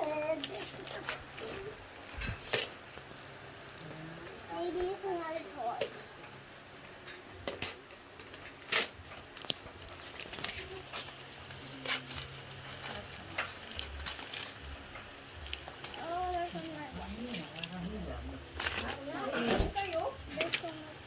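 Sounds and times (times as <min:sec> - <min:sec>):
wrapping paper tearing and crinkling: 0:00.0 - 0:03.9, 0:07.4 - 0:21.0.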